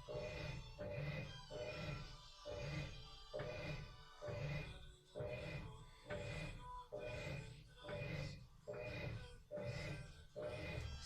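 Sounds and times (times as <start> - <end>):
washing machine agitating: 0.0 - 11.0.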